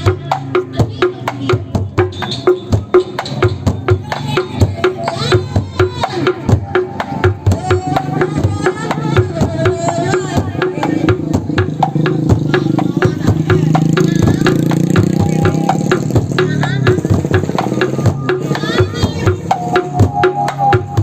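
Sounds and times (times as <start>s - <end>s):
large drum beaten fast: 0.0s - 21.0s.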